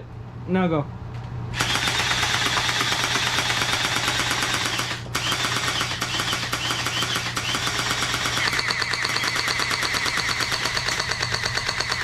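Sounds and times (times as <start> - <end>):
toy blaster mechanical rattle: 1.6 - 12.0.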